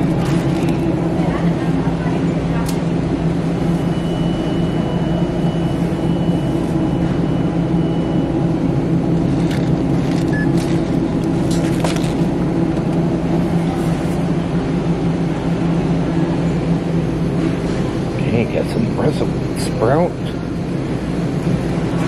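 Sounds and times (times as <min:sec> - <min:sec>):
refrigerator droning hum: 0:00.0 - 0:22.0.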